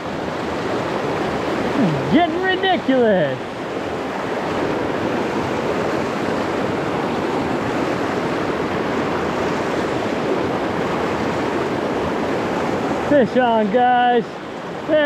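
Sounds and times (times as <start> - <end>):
river rushing through rapids: 0.0 - 15.0.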